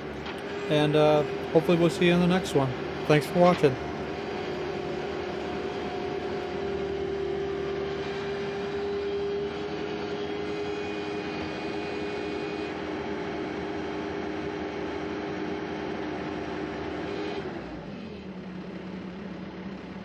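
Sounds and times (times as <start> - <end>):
mechanical drone with whine: 0.0 - 17.8.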